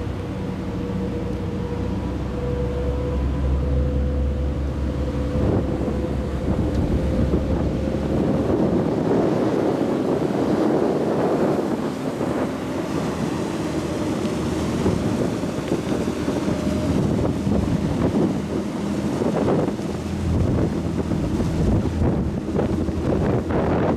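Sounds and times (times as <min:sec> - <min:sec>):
ferry engines droning: 0:00.0 - 0:23.9
water rushing past hull: 0:00.0 - 0:23.9
wind buffeting microphone: 0:00.0 - 0:23.9.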